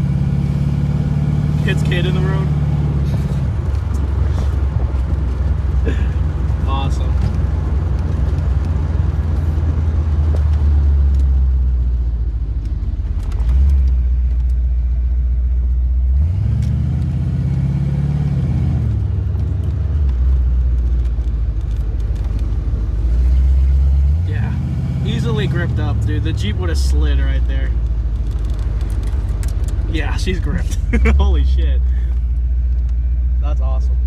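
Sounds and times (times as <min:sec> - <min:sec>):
car engine running: 0:00.0 - 0:34.0
road noise: 0:00.0 - 0:34.0.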